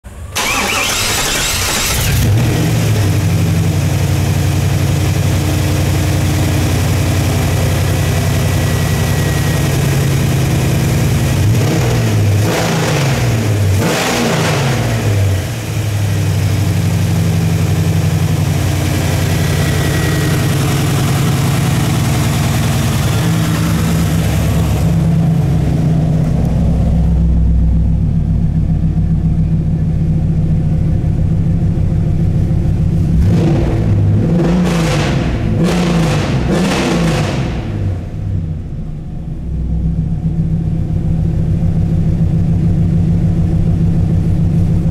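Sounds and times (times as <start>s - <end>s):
car engine idling: 0.0s - 12.4s, 14.9s - 34.5s, 37.6s - 44.9s
car engine revving: 0.4s - 4.0s, 5.8s - 29.9s, 32.7s - 41.4s.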